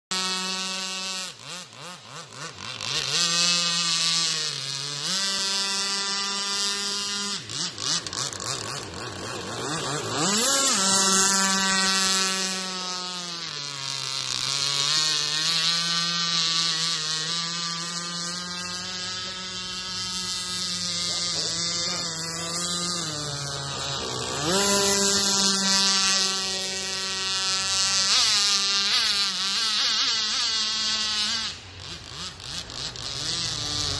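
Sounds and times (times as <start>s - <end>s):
model boat engine buzzing whine: 0.1s - 33.9s.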